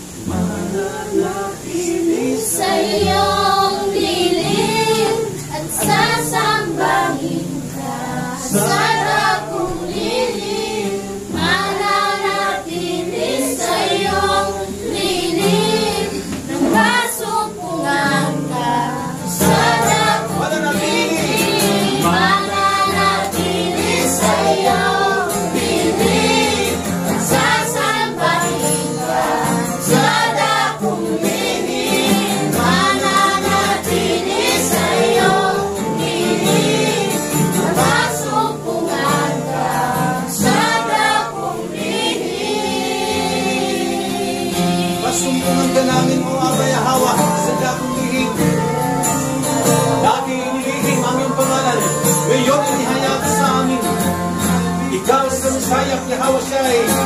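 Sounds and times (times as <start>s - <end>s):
congregation singing: 0.0s - 57.0s
instrumental backing: 0.0s - 57.0s.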